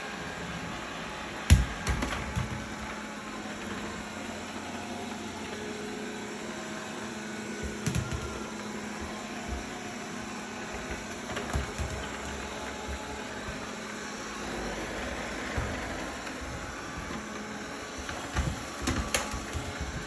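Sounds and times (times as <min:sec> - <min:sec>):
robot vacuum cleaner motor hum: 0:00.0 - 0:20.0.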